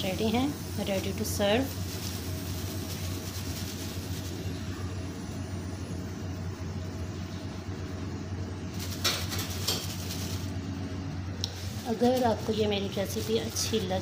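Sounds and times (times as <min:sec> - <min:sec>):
low kitchen hum: 0:00.0 - 0:14.0.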